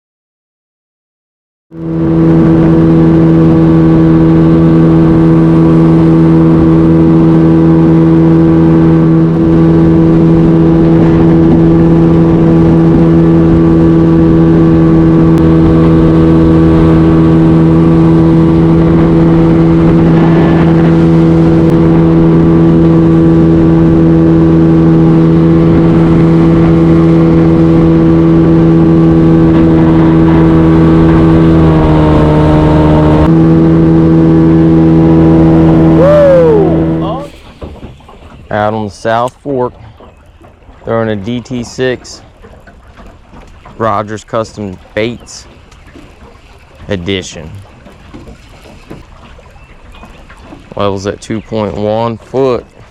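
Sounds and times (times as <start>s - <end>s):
outboard motor running: 1.7s - 52.9s.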